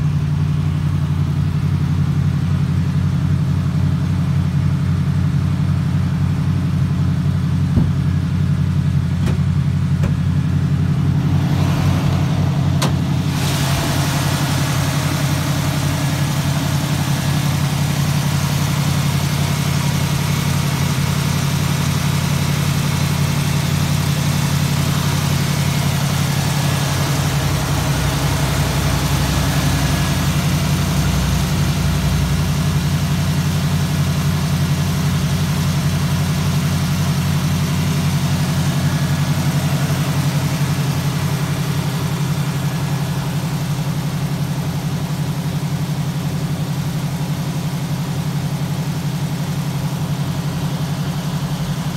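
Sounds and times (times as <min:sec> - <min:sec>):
car engine idling: 0:00.0 - 0:51.9
rush of engine noise: 0:07.4 - 0:51.9.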